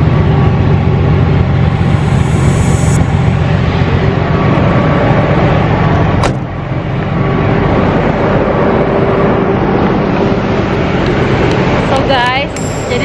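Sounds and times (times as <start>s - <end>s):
truck engines running: 0.0s - 13.0s.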